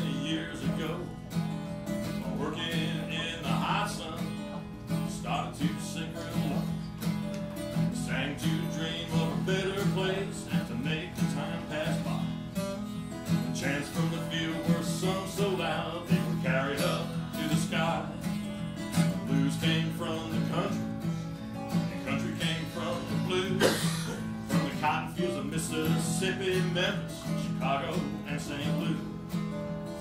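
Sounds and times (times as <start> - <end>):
man singing: 0.0 - 1.3, 2.0 - 6.9, 7.7 - 12.6, 13.2 - 21.0, 21.7 - 29.3
acoustic guitar strummed blues: 0.0 - 30.0.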